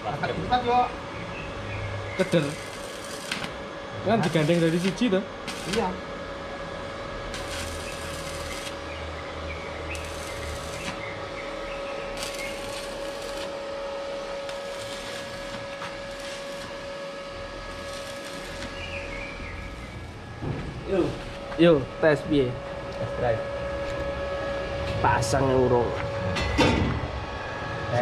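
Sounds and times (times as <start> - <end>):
machine hum with whine: 0.0 - 28.0.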